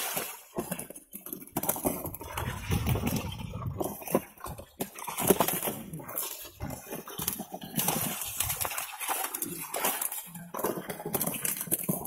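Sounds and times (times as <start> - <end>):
fish flapping and splashing in net: 0.0 - 12.0.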